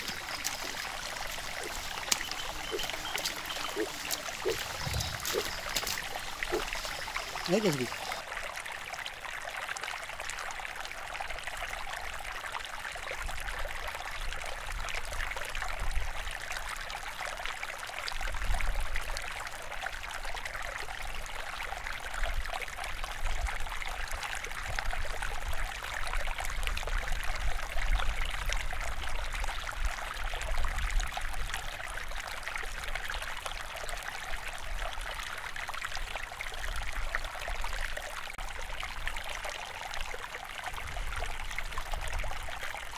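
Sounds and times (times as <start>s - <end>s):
running trickling water: 0.0s - 42.9s.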